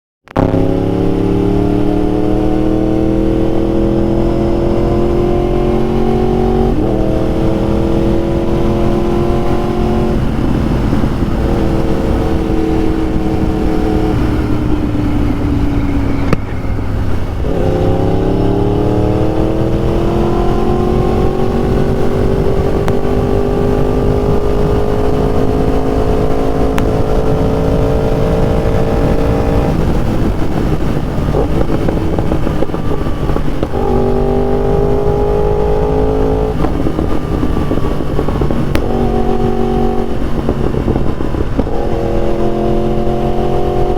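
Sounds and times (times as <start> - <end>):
motorcycle engine revving: 0.3 - 43.9.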